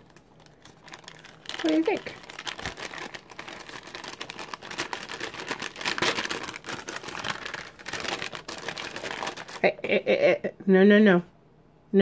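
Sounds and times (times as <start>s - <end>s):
paper envelope crinkling: 0.0s - 9.7s.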